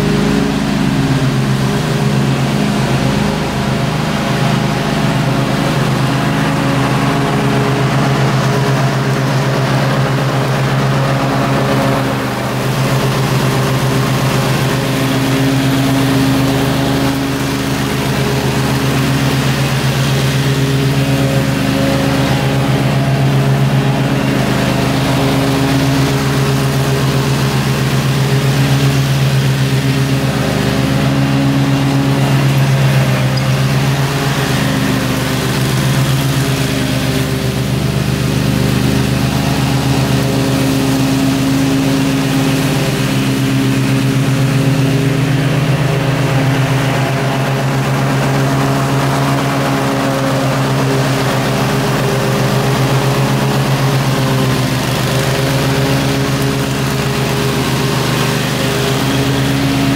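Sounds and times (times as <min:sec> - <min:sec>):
riding mower cutting grass: 0:00.0 - 0:59.9.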